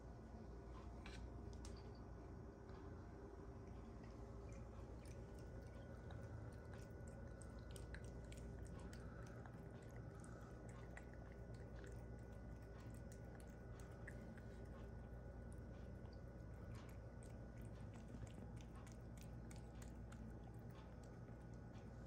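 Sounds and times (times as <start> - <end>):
cat licking and chewing food: 2.6 - 22.0.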